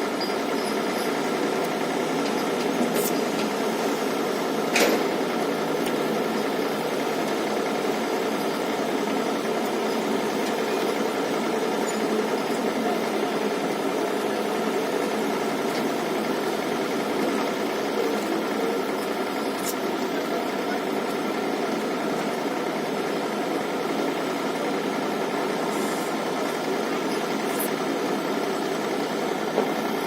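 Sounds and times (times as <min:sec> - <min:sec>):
diesel engine knocking rumble: 0:00.0 - 0:30.0.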